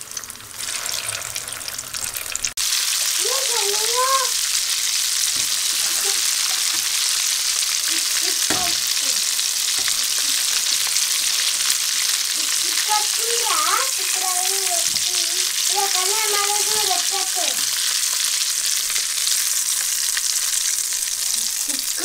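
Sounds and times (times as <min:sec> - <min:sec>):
hot oil sizzling: 0:00.0 - 0:22.0.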